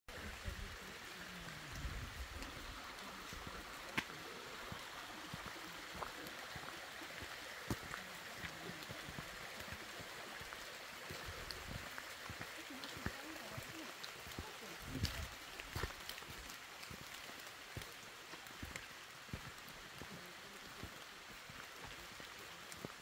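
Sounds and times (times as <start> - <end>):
stream rushing: 0.1 - 23.0.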